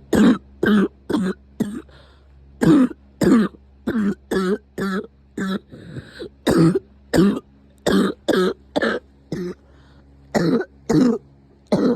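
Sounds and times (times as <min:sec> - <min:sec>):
person coughing: 0:00.1 - 0:02.0, 0:02.6 - 0:09.6, 0:10.3 - 0:11.9.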